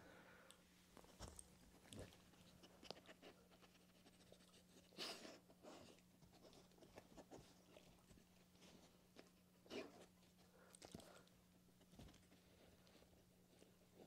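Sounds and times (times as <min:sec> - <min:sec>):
faint steady hum: 0:00.0 - 0:14.0
dog sniffing and licking: 0:01.0 - 0:14.0.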